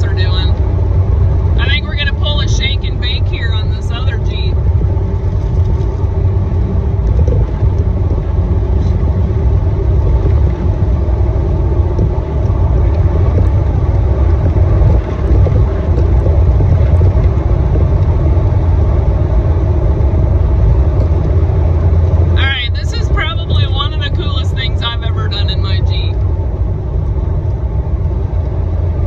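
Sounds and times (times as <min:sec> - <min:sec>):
vehicle driving rumble inside: 0:00.0 - 0:29.0.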